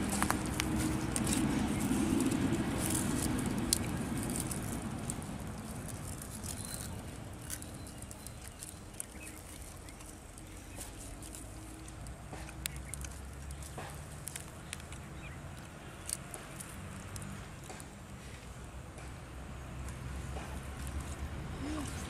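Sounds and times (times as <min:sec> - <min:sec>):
small clicks and ticks: 0:00.0 - 0:17.9.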